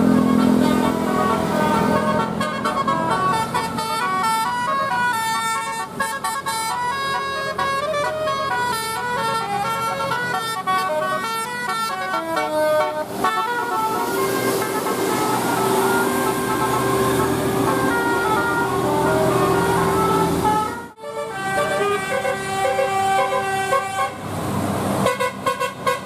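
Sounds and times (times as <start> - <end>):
musical bus air horn: 0.0 - 24.4, 25.0 - 26.0.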